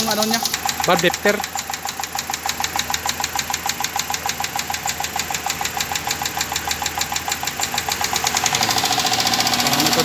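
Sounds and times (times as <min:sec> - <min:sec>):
car engine running: 0:00.0 - 0:10.0
rapid even ticking: 0:00.0 - 0:10.0.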